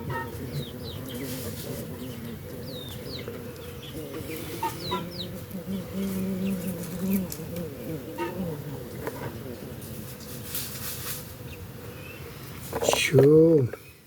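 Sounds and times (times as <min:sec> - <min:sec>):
chickens clucking: 0:00.0 - 0:13.3
small birds chirping: 0:00.0 - 0:14.0.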